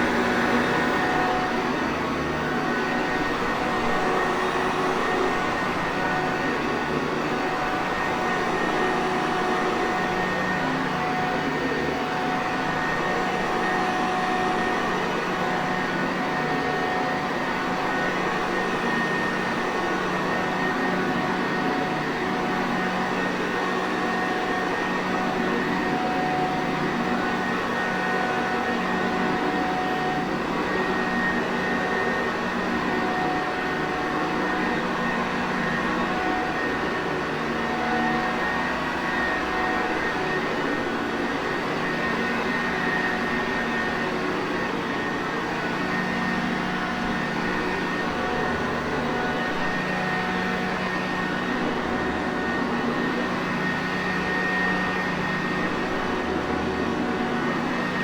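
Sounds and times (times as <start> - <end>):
upright vacuum cleaner running: 0.0 - 58.0.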